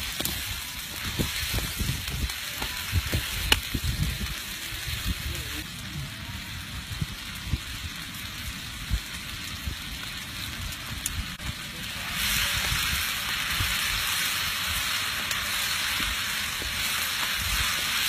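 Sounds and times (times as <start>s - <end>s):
meat sizzling: 0.0s - 18.0s.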